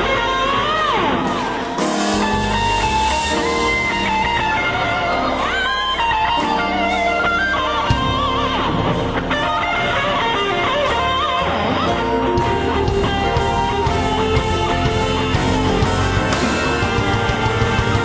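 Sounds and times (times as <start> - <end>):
gospel song with full band: 0.0 - 18.0
lead guitar bending notes: 0.0 - 18.0.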